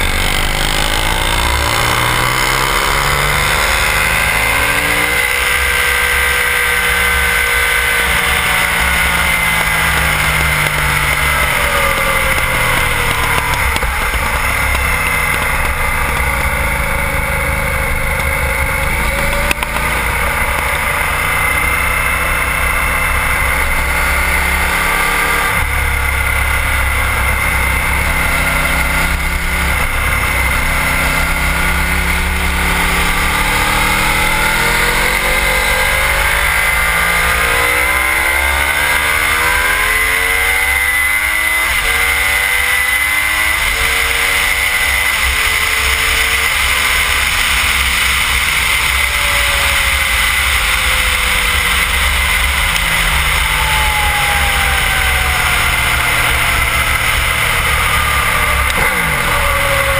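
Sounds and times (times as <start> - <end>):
motorcycle engine revving: 0.0 - 59.9
steady rush: 0.0 - 59.9.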